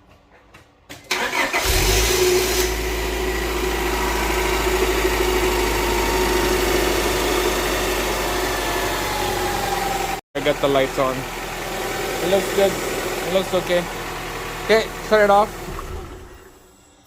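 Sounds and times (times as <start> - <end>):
car engine idling: 1.3 - 16.8.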